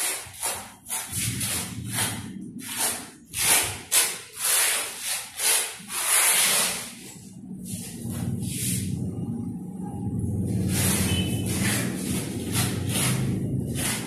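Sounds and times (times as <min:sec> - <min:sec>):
rough scraping on hard surface: 0:00.0 - 0:09.1, 0:10.4 - 0:14.0.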